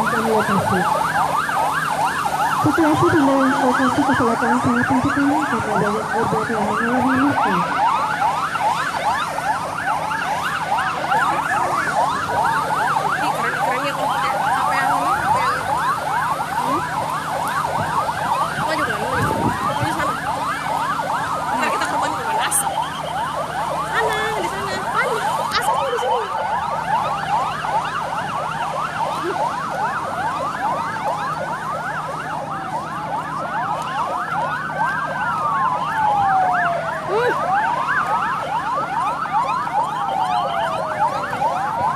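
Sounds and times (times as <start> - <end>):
siren wail: 0.0 - 41.9
sirens yelping: 0.0 - 41.9.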